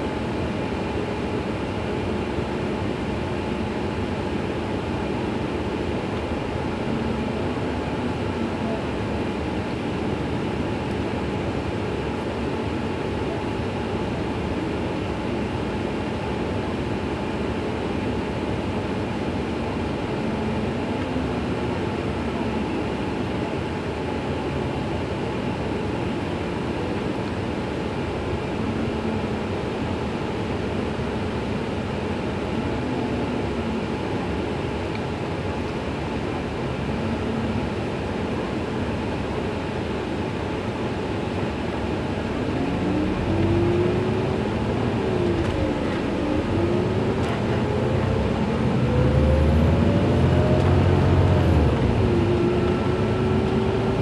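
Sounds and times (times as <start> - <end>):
bus engine humming: 0.0 - 54.0.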